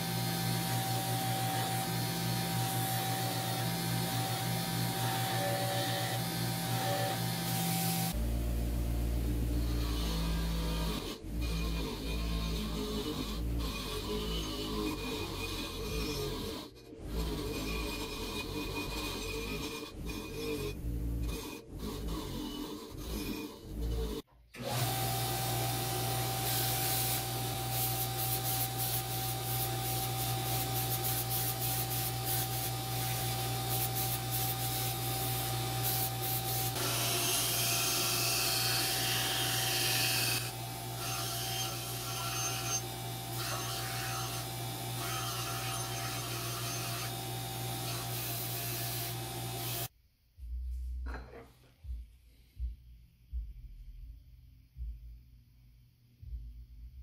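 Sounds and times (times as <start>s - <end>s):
bench grinder motor running: 0.0s - 8.2s, 9.4s - 49.9s.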